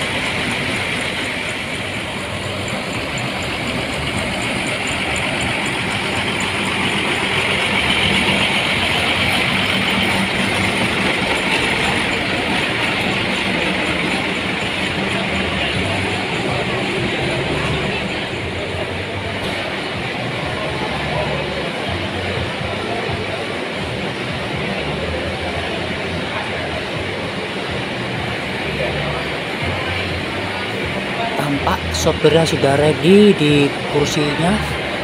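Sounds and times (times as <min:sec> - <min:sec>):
diesel engine rumble: 0:00.0 - 0:35.0.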